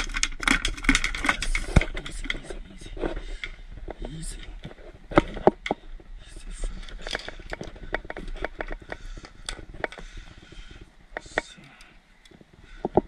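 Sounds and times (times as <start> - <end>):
fishing gear clicking and knocking: 0.0 - 13.0
low wind rumble: 0.0 - 13.0.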